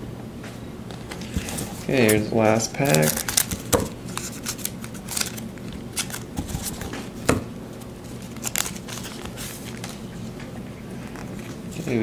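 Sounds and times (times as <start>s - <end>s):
plastic wrapper crinkling and tearing: 1.1s - 7.1s, 8.1s - 12.0s.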